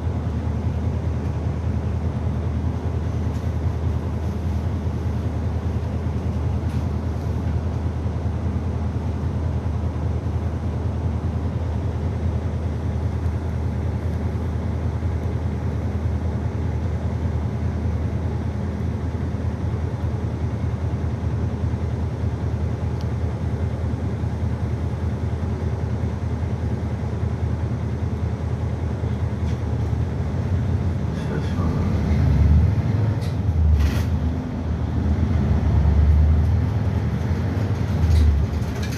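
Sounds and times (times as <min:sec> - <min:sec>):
bus engine: 0:00.0 - 0:38.9
road noise: 0:00.0 - 0:38.9.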